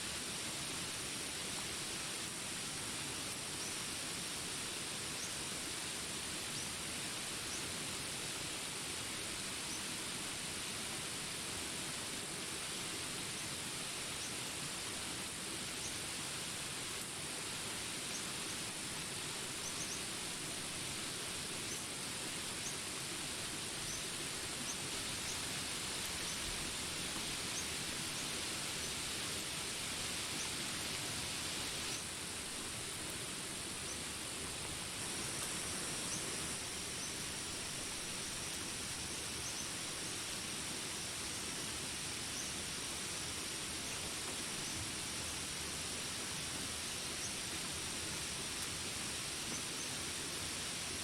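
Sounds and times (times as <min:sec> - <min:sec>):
rain hissing: 0:00.0 - 0:51.0.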